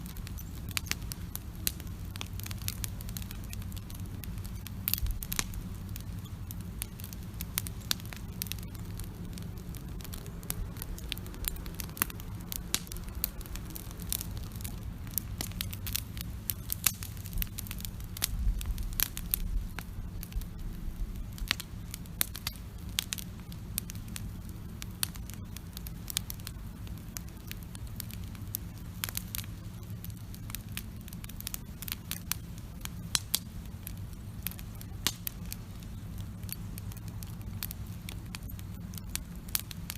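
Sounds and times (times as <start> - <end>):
campfire crackling and popping: 0.0 - 39.9
steady low rumble: 0.0 - 39.9.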